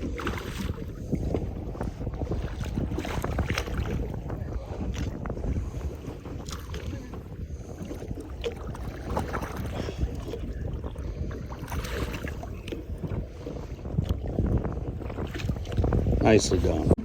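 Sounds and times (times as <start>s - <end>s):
water around a boat: 0.0s - 17.0s
wind: 0.0s - 17.0s.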